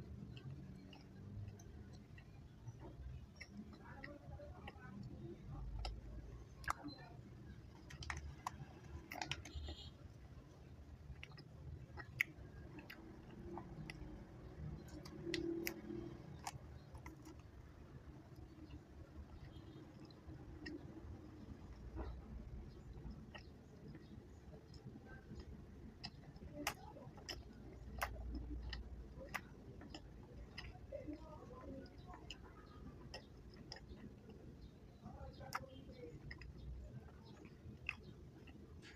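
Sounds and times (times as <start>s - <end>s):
mouth chewing candy: 0.0s - 38.9s.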